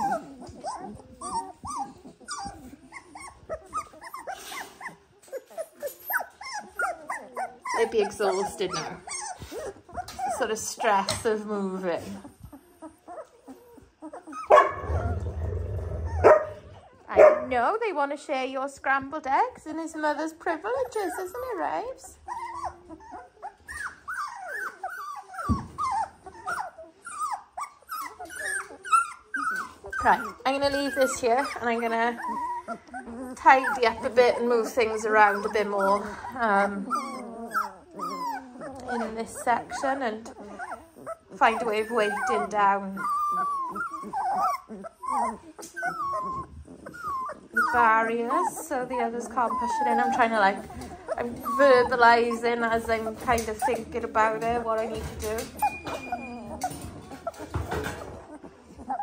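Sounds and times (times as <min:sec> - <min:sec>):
puppies whimpering: 0:00.0 - 0:59.0.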